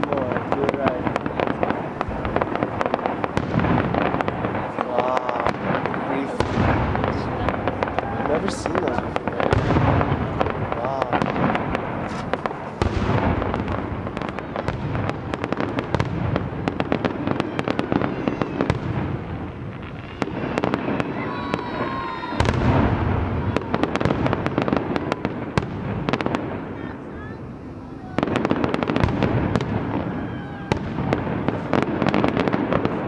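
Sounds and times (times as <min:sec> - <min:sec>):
firework shells booming: 0:00.0 - 0:33.0
fireworks crackling: 0:00.0 - 0:33.0.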